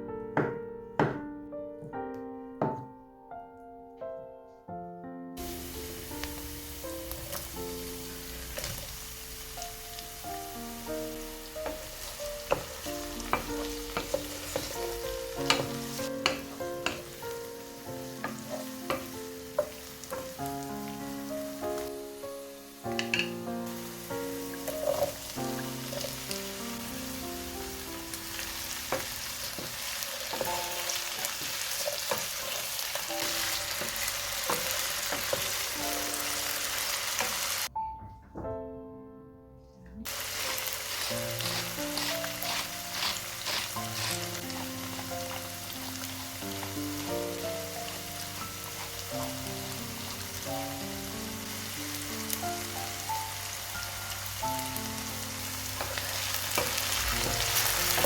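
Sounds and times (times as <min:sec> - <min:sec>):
soft background music: 0:00.0 - 0:58.0
food sizzling in oil: 0:05.4 - 0:37.7, 0:40.1 - 0:58.0.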